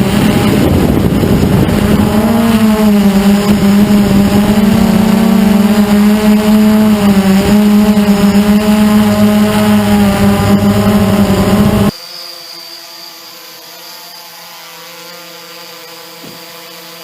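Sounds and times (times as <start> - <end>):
quadcopter buzzing hum: 0.0 - 17.0.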